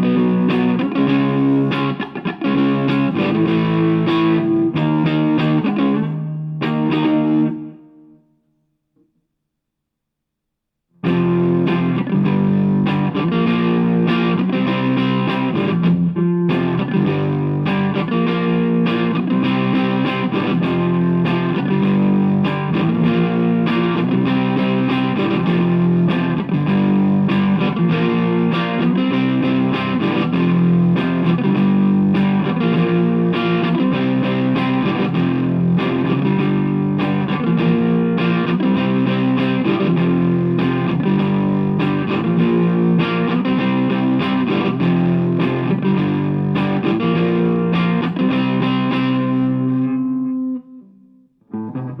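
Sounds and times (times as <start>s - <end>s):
distorted electric guitar riff: 0.0s - 8.2s, 11.0s - 52.0s.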